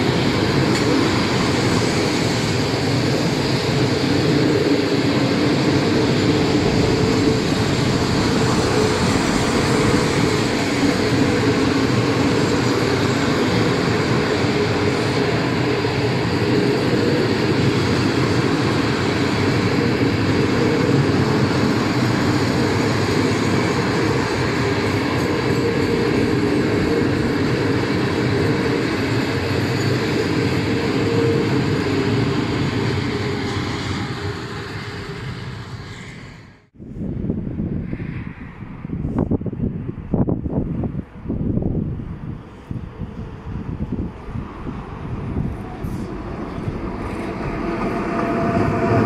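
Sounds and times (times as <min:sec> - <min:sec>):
freight wagons rumbling on rails: 0:00.0 - 0:36.4, 0:40.0 - 0:49.0.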